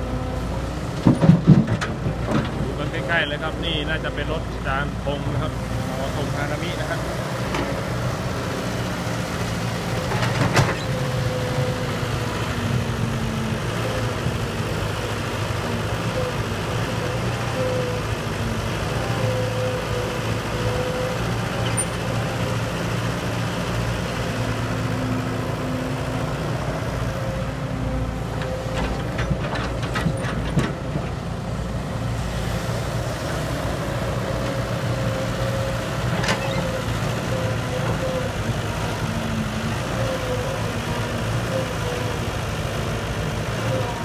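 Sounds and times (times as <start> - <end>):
heavy diesel engines running: 0.0 - 44.0.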